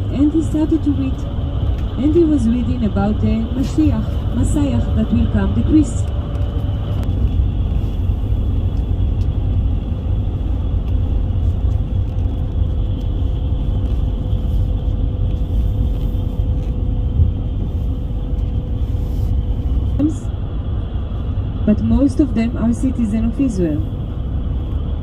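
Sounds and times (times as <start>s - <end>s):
bus engine and road rumble: 0.0s - 25.0s
thin constant whine: 0.0s - 25.0s.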